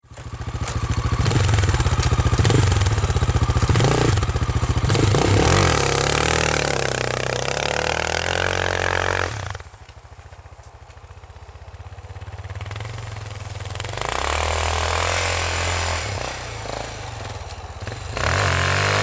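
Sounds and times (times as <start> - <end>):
motorcycle engine revving: 0.0 - 10.1, 11.8 - 19.0.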